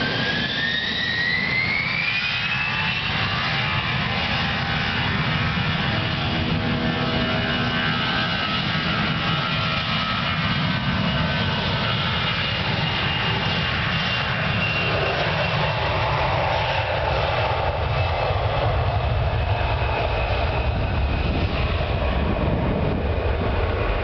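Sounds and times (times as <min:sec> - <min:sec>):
jet engines at take-off thrust: 0:00.0 - 0:24.0.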